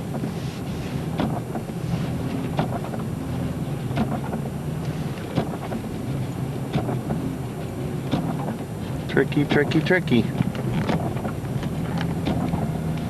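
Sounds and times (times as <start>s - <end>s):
minivan engine and tyres on snow: 0.0s - 13.0s.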